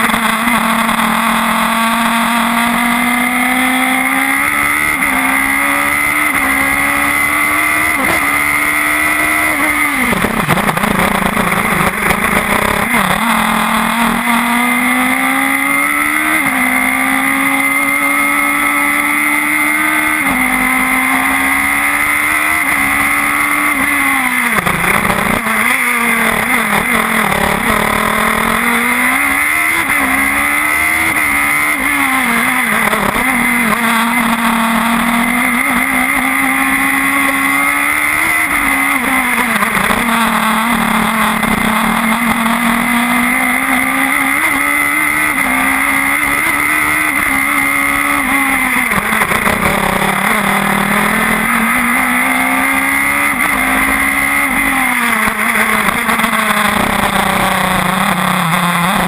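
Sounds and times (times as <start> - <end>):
race car engine revving through gears: 0.0 - 59.0.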